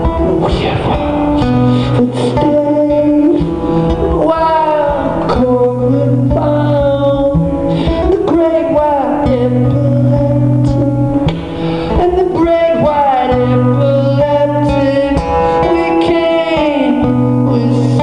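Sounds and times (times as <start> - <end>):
guitar: 0.0 - 18.0
man singing: 0.0 - 18.0.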